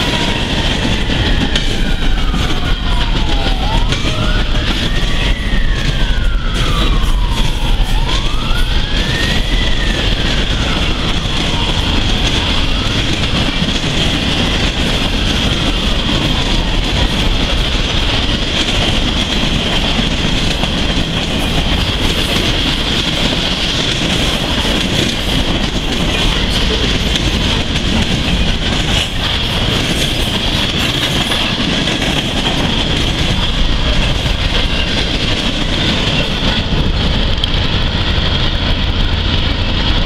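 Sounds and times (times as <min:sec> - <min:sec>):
siren wailing: 0:00.0 - 0:40.0
train wheels clattering on rails: 0:00.0 - 0:40.0.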